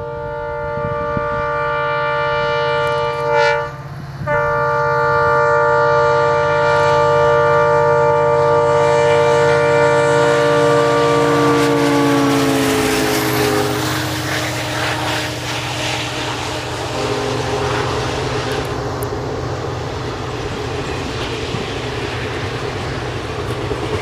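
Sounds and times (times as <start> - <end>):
locomotive air horn blasts: 0.0 - 19.4
diesel locomotive engine rumble: 0.0 - 24.0.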